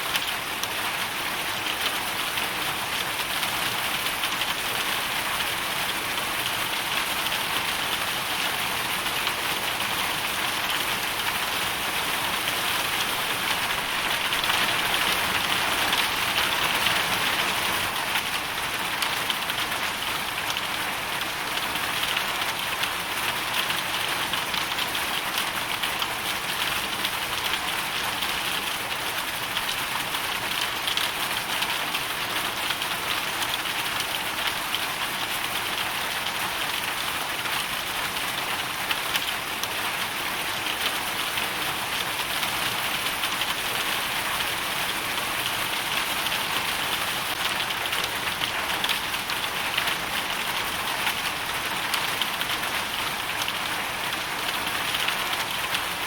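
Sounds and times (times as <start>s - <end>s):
hail and rain on hard surface: 0.0s - 56.0s.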